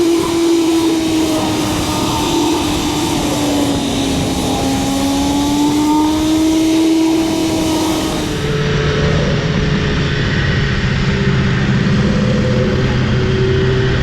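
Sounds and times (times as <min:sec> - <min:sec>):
motorcycle engine cruising: 0:00.0 - 0:14.0
wind rumble on microphone: 0:00.0 - 0:14.0.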